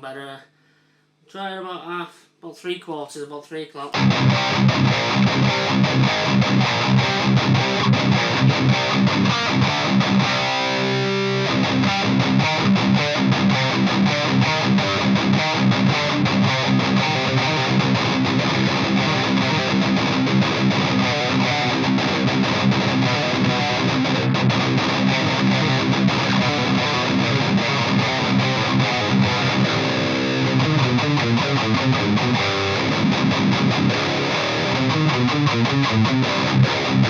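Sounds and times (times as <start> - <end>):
distorted electric guitar riffing: 3.8 - 37.0.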